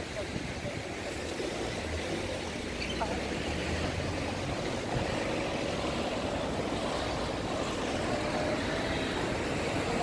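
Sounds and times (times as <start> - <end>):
cars driving on cobbles: 0.0 - 10.0.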